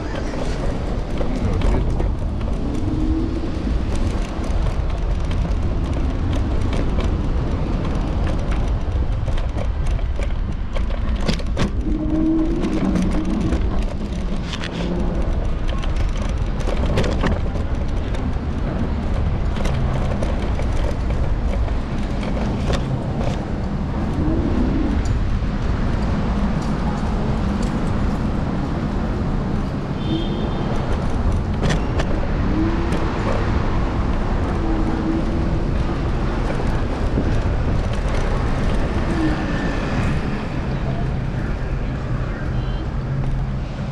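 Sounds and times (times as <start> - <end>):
scooter clicks and rattles: 0.0 - 39.2
wind and road rumble: 0.0 - 43.9.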